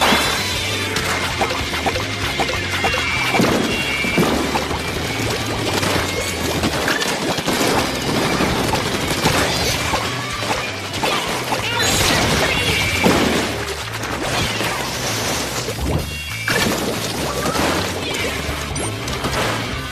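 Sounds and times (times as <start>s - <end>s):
background music: 0.0s - 19.9s.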